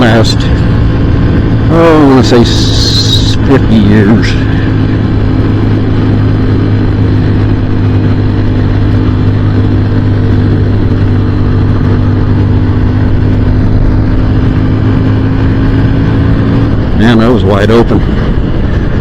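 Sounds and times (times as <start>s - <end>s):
motorcycle engine at full throttle: 0.0s - 19.0s.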